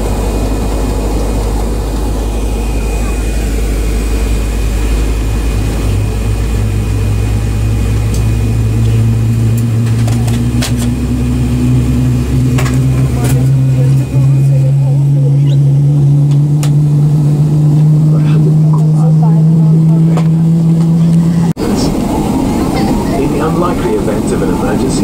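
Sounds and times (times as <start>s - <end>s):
jet engine rumble: 0.0s - 25.0s
low hum: 0.0s - 25.0s.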